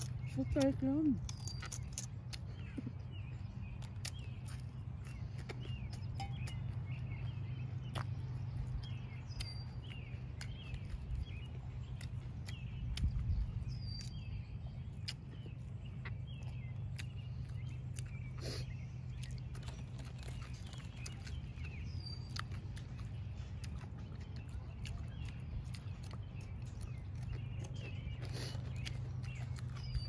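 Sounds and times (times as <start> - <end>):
crunching raw vegetables: 0.0 - 30.0
small birds chirping: 0.0 - 30.0
steady low rumble: 0.0 - 30.0.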